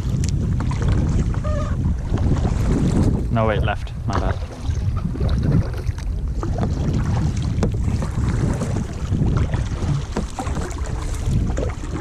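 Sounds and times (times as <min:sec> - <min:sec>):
paddles splashing in water: 0:00.0 - 0:12.0
wind buffeting microphone: 0:00.0 - 0:12.0.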